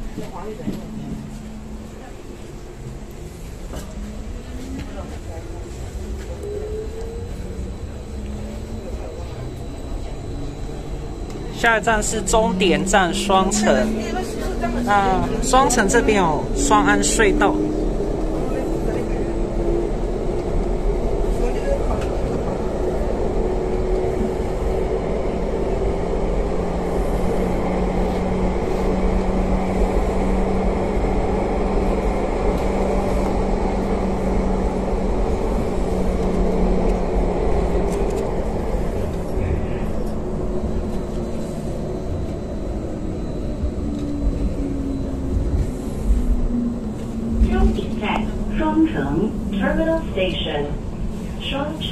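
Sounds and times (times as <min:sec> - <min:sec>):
humming train motor: 0:00.0 - 0:51.9
train rolling rumble: 0:00.0 - 0:51.9.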